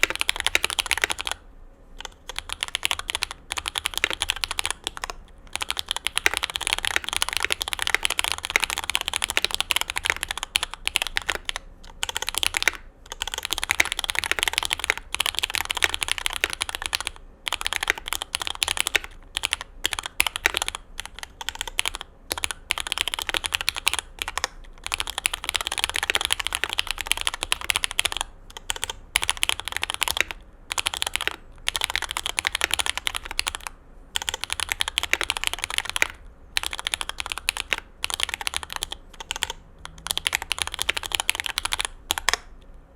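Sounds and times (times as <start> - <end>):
mechanical keyboard typing: 0.0 - 1.4, 2.0 - 42.6.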